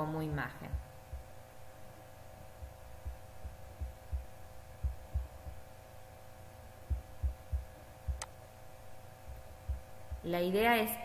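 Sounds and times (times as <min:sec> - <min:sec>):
electrical hum: 0:00.0 - 0:11.0
soft low thumps: 0:00.2 - 0:05.8, 0:06.7 - 0:10.5.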